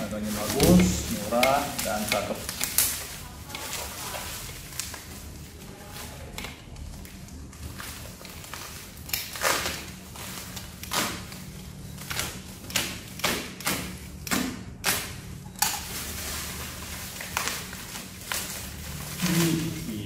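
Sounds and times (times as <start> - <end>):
bubble wrap rustling and crackling: 0.0 - 20.0.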